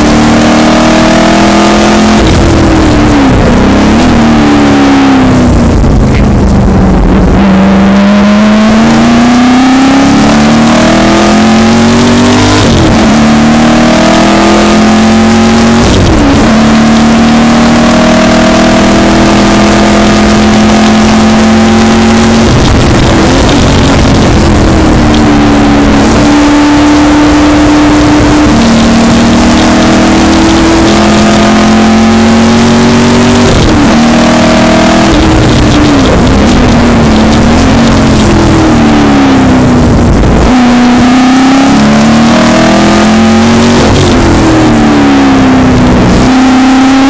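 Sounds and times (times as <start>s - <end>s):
racing car engine accelerating: 0.0s - 47.0s.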